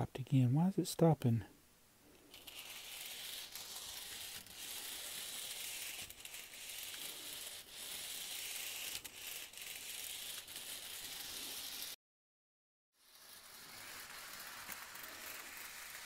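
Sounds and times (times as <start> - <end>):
model train motor whirring: 2.1 - 12.0, 13.0 - 16.0.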